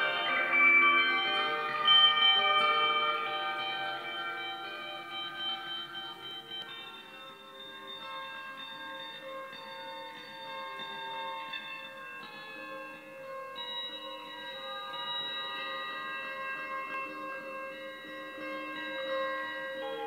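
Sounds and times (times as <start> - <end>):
sustained ringing tones: 0.0 - 20.0.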